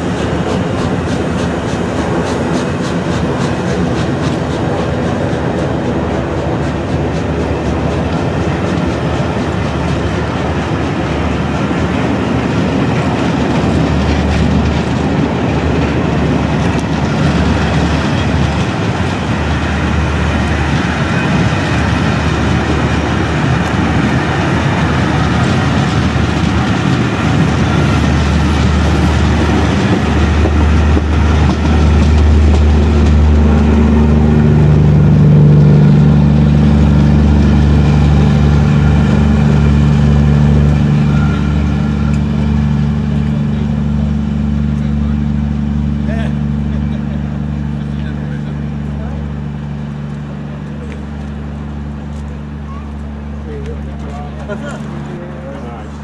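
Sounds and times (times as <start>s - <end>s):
train wheels rumbling and clattering: 0.0s - 56.0s
low steady drone: 4.6s - 56.0s.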